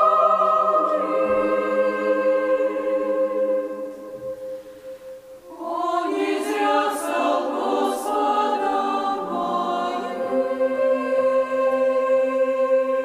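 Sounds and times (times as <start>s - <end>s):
women's choir singing a hymn: 0.0s - 13.0s.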